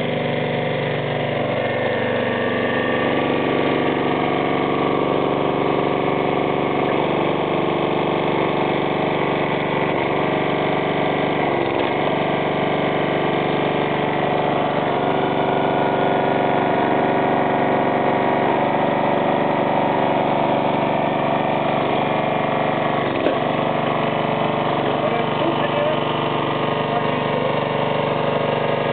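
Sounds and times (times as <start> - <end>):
petrol engine running: 0.0 - 28.9.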